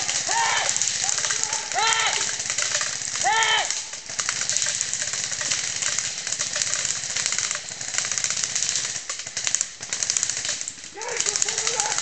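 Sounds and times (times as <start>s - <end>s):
airsoft guns firing bursts: 0.0s - 12.0s.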